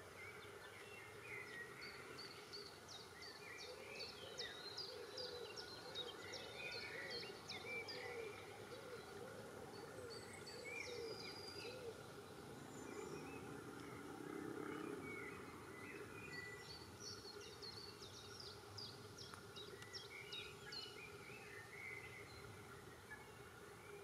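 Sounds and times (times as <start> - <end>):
faint background hiss: 0.0 - 24.0
small birds singing: 0.0 - 24.0.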